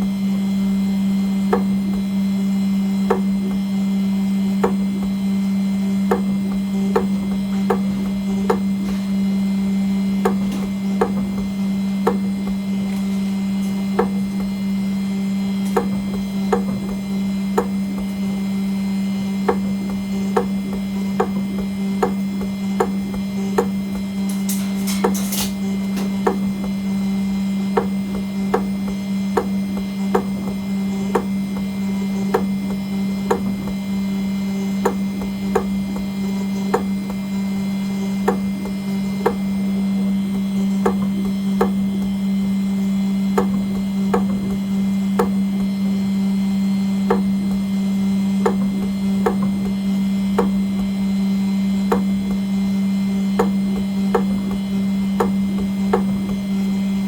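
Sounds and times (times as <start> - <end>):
engraving machine spindle hum: 0.0 - 57.0.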